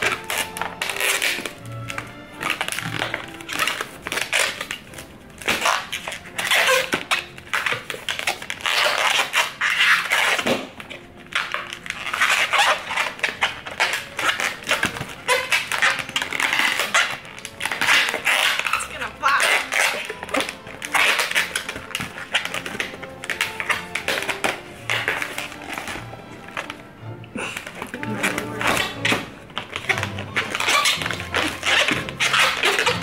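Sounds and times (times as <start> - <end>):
balloons squeaking and rubbing: 0.0 - 33.0.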